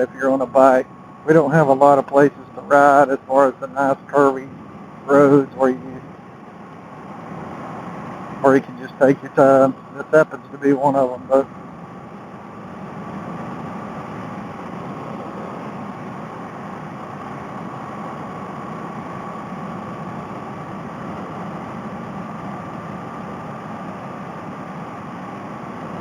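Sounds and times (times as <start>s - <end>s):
faint constant whine: 0.0s - 26.0s.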